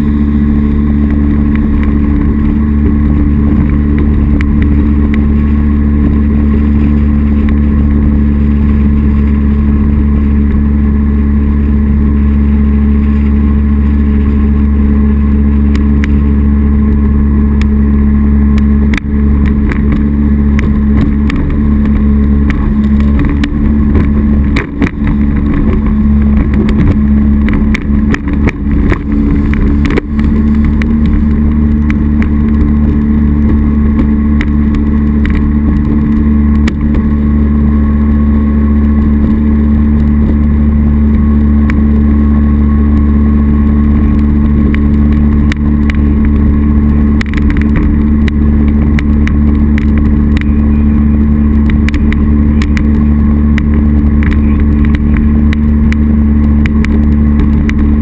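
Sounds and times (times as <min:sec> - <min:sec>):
jet boat engine running: 0:00.0 - 0:58.0.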